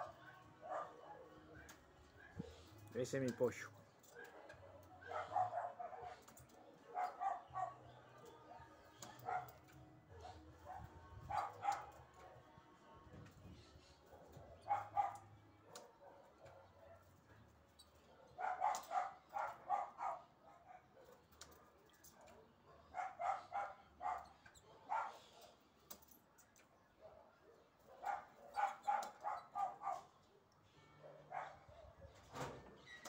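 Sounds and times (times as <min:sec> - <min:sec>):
dog barking: 0:00.0 - 0:02.6, 0:04.1 - 0:12.4, 0:14.0 - 0:17.2, 0:17.9 - 0:25.6, 0:26.8 - 0:32.2.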